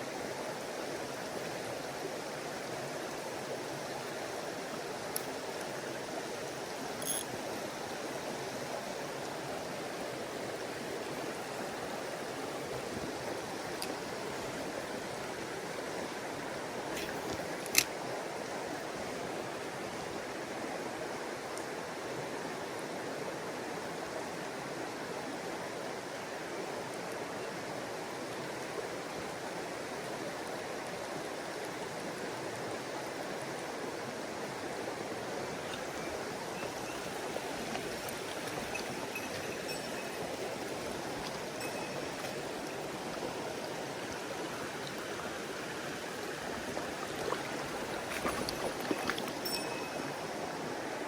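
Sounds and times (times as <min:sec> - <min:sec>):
stream water rushing: 0:00.0 - 0:51.0.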